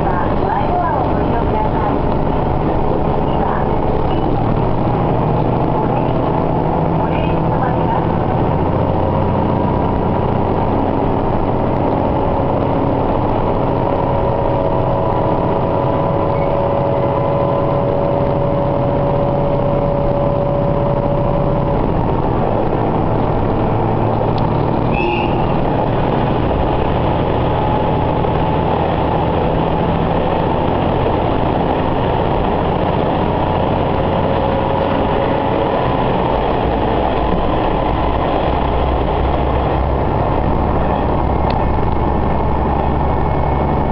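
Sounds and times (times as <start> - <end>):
railcar engine drone: 0.0 - 43.9
train rolling noise: 0.0 - 43.9.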